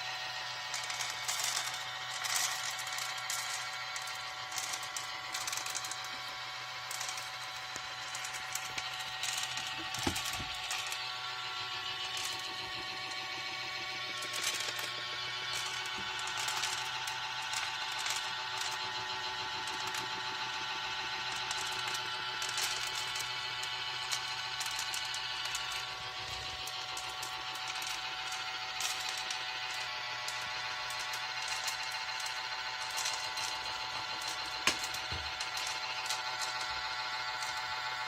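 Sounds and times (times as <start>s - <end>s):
small electric motor whining: 0.0s - 38.0s
clicking and rattling: 0.7s - 18.9s, 21.2s - 38.0s.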